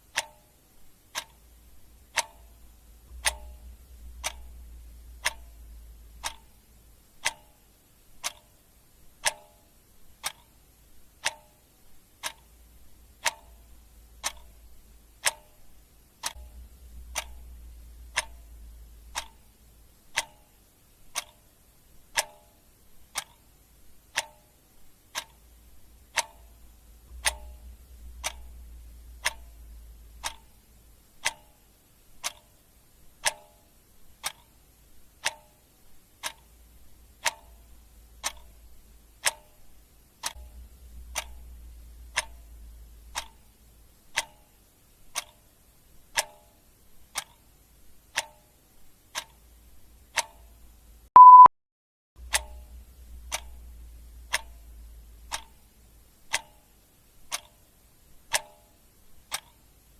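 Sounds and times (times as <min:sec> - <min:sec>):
clock ticking: 0:00.0 - 0:51.5, 0:52.2 - 0:59.9.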